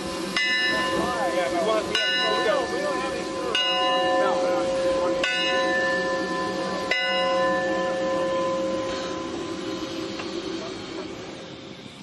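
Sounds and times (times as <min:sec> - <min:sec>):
locomotive bell ringing: 0:00.3 - 0:11.2.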